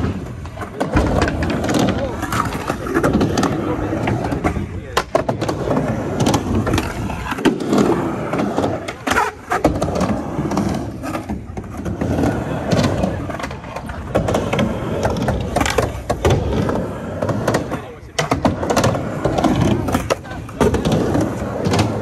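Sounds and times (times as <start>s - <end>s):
skateboard clacking on coping: 0.0s - 22.0s
skateboard wheels rolling on ramp: 0.0s - 22.0s.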